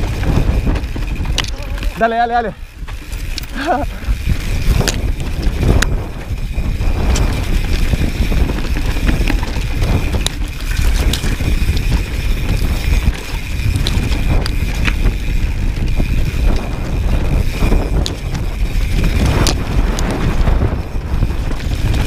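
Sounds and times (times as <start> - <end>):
bike rattling and knocking: 0.0 - 22.0
wind buffeting microphone: 0.0 - 22.0.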